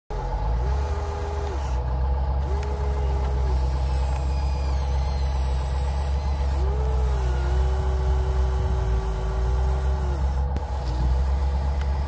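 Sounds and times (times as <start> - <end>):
low engine-like hum: 0.1 - 12.0
electric motor whine: 0.2 - 12.0.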